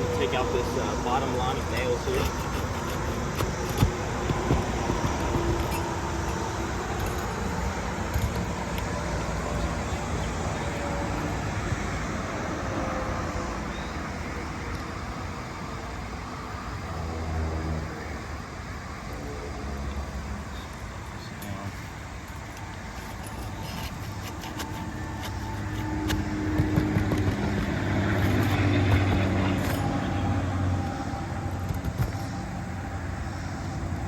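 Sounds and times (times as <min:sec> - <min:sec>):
road traffic noise: 0:00.0 - 0:34.0
vehicle engine hum: 0:00.0 - 0:34.0.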